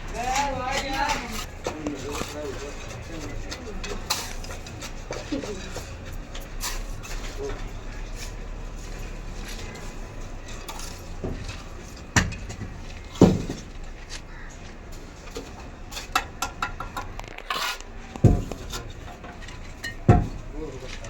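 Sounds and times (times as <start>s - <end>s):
trowel scraping bricks and mortar: 0.1s - 13.9s, 15.3s - 21.0s.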